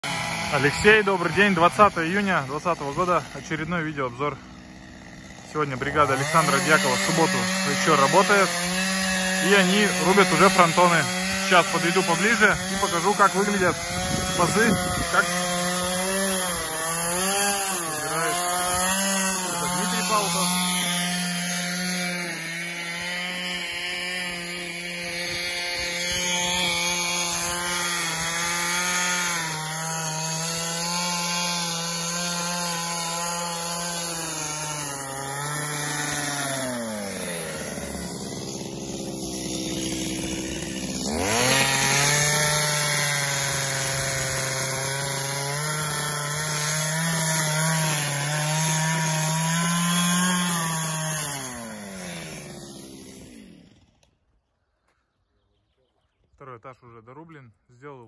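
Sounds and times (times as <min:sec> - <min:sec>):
chainsaw cutting log: 0:00.0 - 0:54.4.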